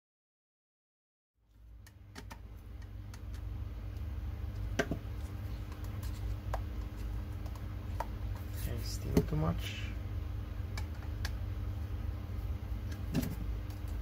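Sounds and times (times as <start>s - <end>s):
low steady hum: 1.4s - 14.0s.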